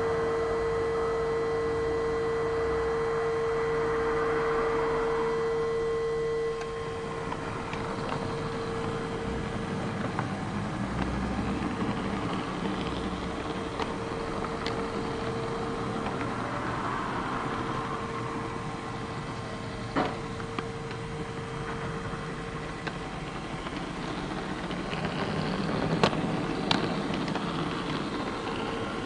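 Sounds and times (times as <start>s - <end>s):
model train electric hum: 0.0s - 29.0s
model train running noise: 0.0s - 29.0s.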